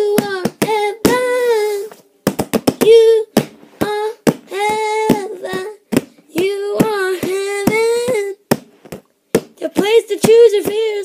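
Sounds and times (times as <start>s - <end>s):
child singing wordless notes: 0.0s - 2.0s, 2.8s - 8.5s, 9.6s - 11.0s.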